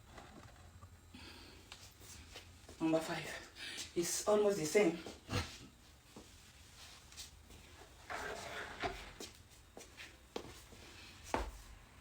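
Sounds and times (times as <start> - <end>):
faint shuffling: 1.3 - 11.8.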